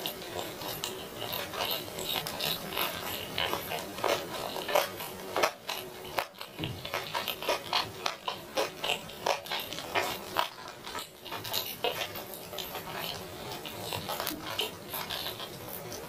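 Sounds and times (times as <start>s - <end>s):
chewing and mouth smacks: 0.0s - 16.0s.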